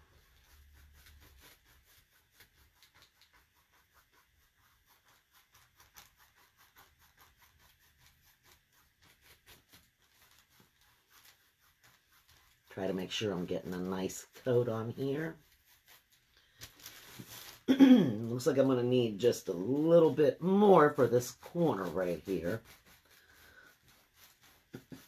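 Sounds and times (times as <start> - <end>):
paintbrush strokes on paper: 0.0 - 25.0.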